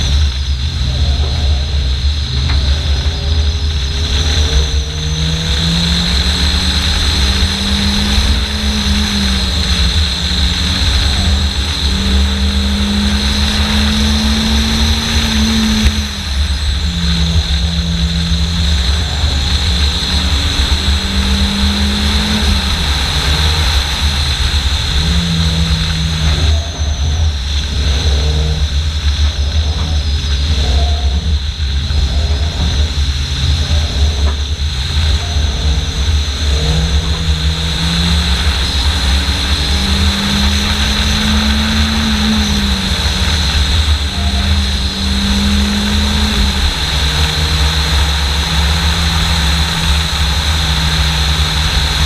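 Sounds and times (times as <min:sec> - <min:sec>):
small car engine accelerating hard: 0:00.0 - 0:52.0
wind and road noise: 0:00.0 - 0:52.0.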